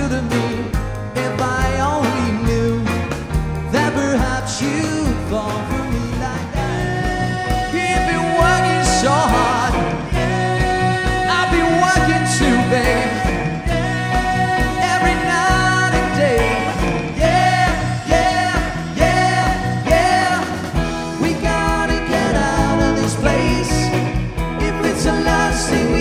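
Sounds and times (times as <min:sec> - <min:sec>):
man singing: 0:00.0 - 0:26.0
rock and roll band music: 0:00.0 - 0:26.0.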